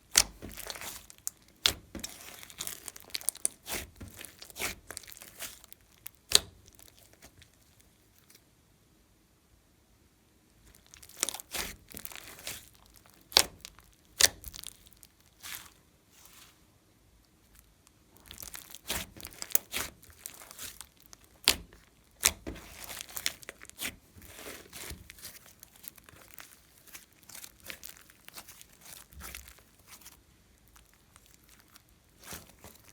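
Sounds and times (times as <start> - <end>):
slime squishing and popping: 0.0 - 8.4, 10.7 - 15.8, 17.6 - 32.9.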